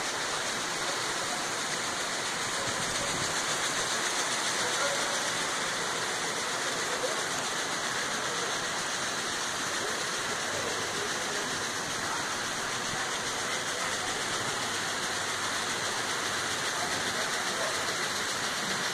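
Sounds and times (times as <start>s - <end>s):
water rushing into pond: 0.0s - 18.9s.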